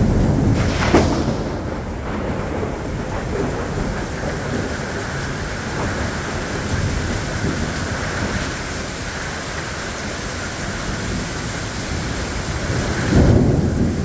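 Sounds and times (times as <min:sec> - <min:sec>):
heavy rain pouring: 0:00.0 - 0:14.0
low thunder rumble: 0:00.0 - 0:14.0.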